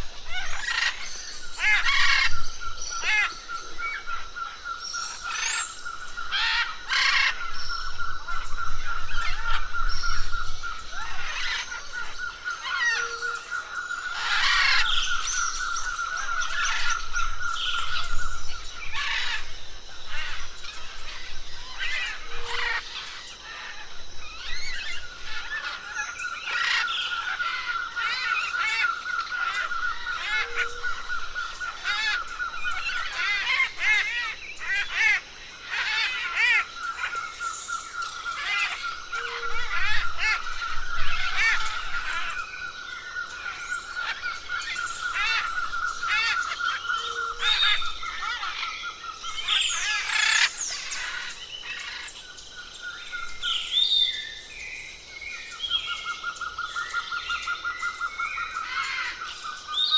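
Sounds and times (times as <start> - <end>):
forest birds chirping and whistling: 0.0 - 59.9.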